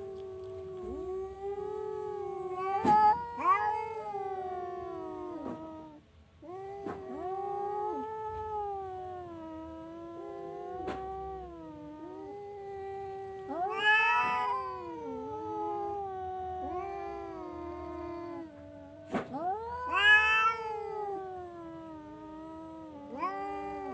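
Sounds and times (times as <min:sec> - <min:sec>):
cat yowling: 0:00.0 - 0:23.9.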